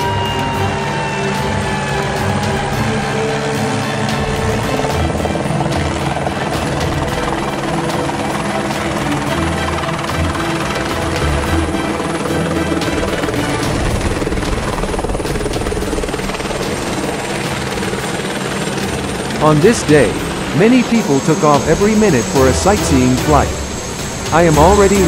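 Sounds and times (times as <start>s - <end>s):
helicopter rotor beat: 0.0s - 25.0s
high engine whine: 0.0s - 25.0s.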